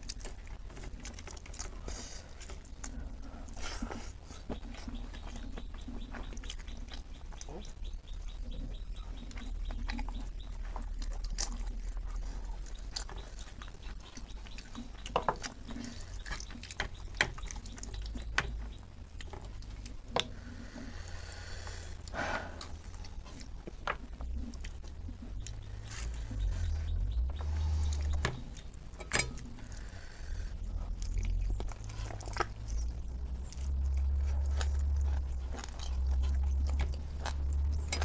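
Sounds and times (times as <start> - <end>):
wet chewing and lip-smacking: 0.0 - 38.0.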